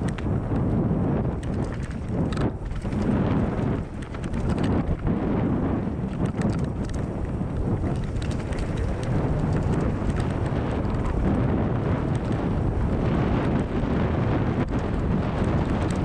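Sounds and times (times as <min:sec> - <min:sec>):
bike rattling clicks: 0:00.0 - 0:16.0
wind buffeting microphone: 0:00.0 - 0:16.0.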